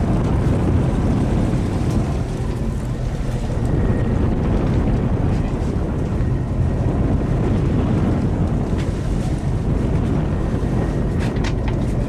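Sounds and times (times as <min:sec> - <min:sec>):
boat rumbling: 0:00.0 - 0:12.0
sea: 0:00.0 - 0:12.0
wind buffeting microphone: 0:00.0 - 0:12.0.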